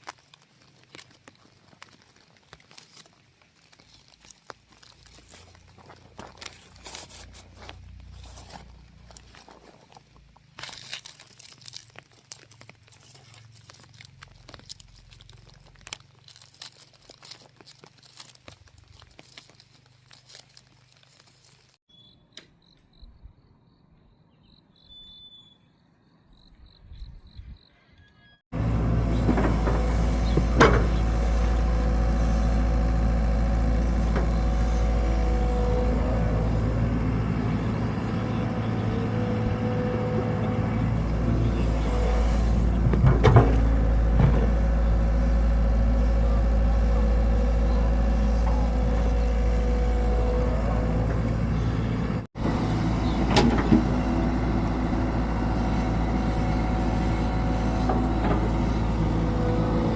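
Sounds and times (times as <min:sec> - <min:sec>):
diesel engine running: 0:04.4 - 0:21.7, 0:28.5 - 0:59.9.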